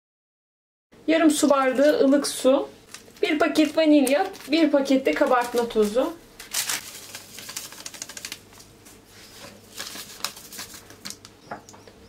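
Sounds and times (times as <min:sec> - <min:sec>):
paper sachets crinkling: 0:01.4 - 0:11.3.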